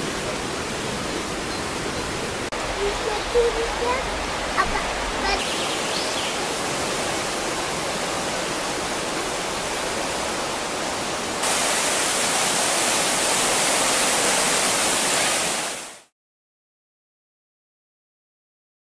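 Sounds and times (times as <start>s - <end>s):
flooded river rushing: 0.0s - 16.1s.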